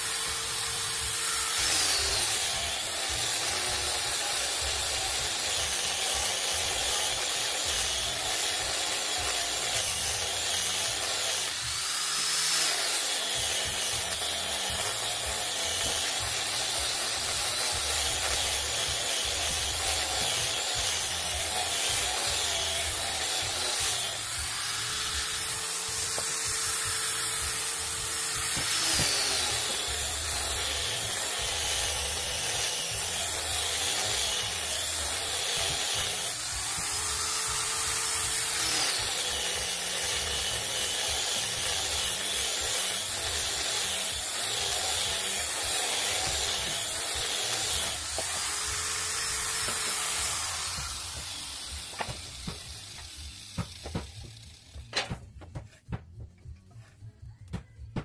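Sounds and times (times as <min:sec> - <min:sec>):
angle grinder sanding wood: 0:00.0 - 0:55.8.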